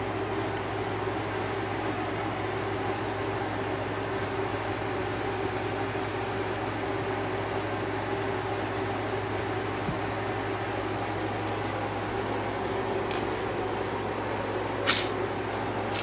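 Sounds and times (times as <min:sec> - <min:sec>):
steady room hum: 0:00.0 - 0:16.0
brush strokes through dog fur: 0:00.2 - 0:16.0.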